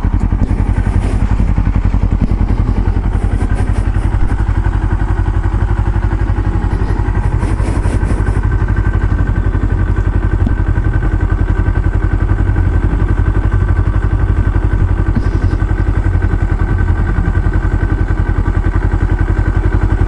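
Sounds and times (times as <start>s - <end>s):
vehicle engine throbbing: 0.0s - 20.0s
wind and road noise: 0.0s - 20.0s.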